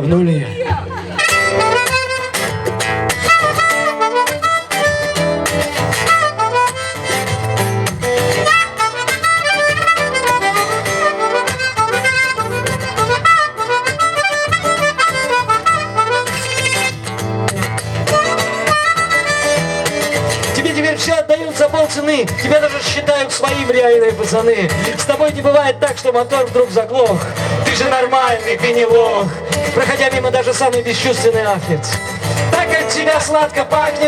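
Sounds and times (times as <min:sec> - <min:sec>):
strummed acoustic guitar: 0:00.0 - 0:34.0
harmonica melody: 0:01.1 - 0:34.0.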